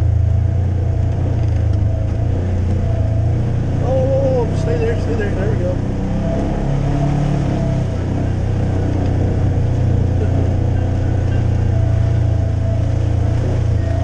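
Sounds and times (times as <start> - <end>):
off-road vehicle engine droning: 0.0 - 14.0.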